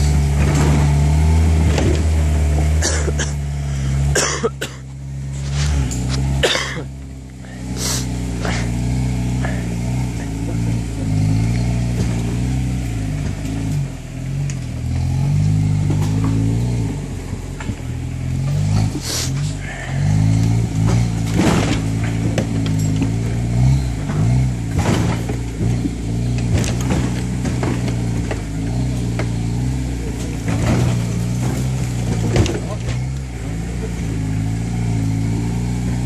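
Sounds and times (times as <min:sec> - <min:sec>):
towed truck knocking and rattling: 0:00.0 - 0:05.1, 0:09.6 - 0:19.4, 0:20.3 - 0:35.8
engine pulling at low revs: 0:00.0 - 0:36.0.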